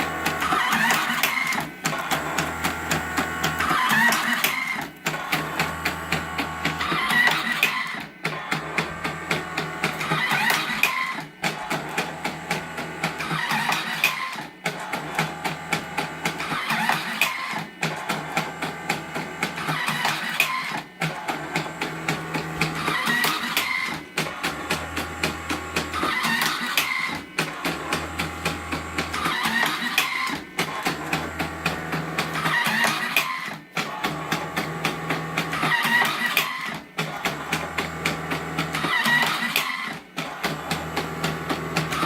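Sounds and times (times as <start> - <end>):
machine fast clicking: 0.0 - 42.0
machine motor hum: 0.0 - 42.0.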